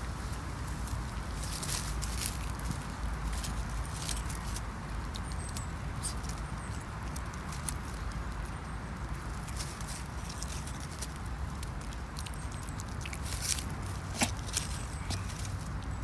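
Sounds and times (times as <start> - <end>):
dry leaves crackling underfoot: 0.0 - 16.0.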